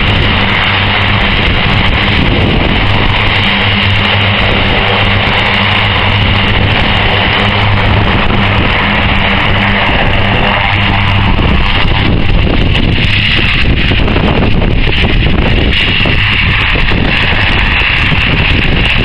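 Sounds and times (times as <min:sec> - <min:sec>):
turboprop aircraft engines droning: 0:00.0 - 0:19.0.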